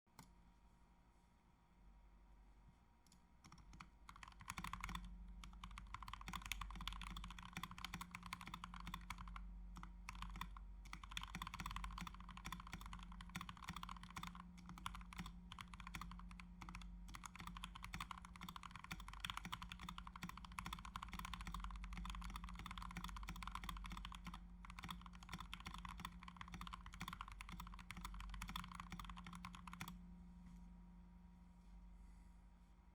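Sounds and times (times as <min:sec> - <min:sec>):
mechanical keyboard typing: 0:03.4 - 0:30.0.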